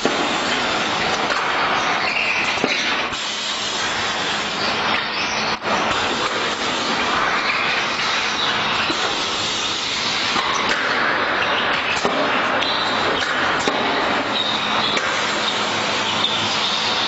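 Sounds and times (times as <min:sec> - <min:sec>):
assembly line machinery running: 0:00.0 - 0:17.0.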